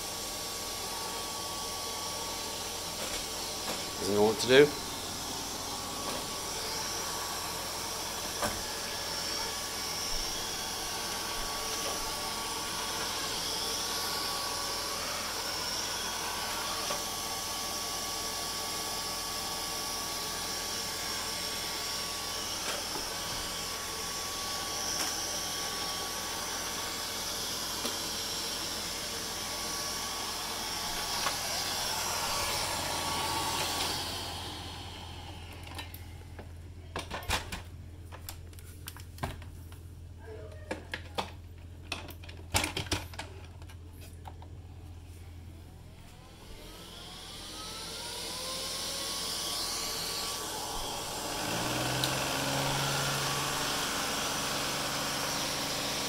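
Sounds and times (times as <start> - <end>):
robot vacuum running with whine: 0.0 - 36.3, 46.0 - 56.0.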